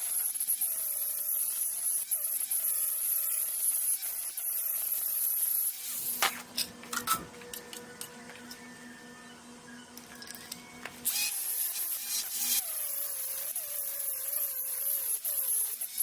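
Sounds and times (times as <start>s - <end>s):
power tool whining: 0.0s - 16.0s.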